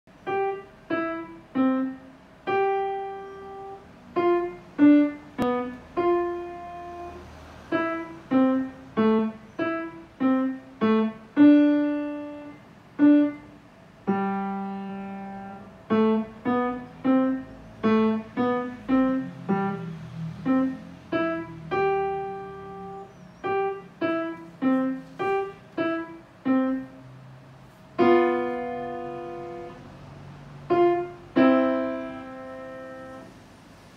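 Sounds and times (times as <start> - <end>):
solo grand piano tune: 0.1 - 33.9.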